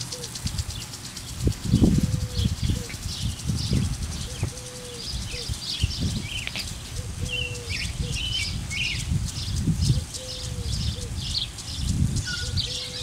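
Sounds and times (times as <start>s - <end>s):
dove cooing: 0.0s - 13.0s
small birds chirping: 0.0s - 13.0s.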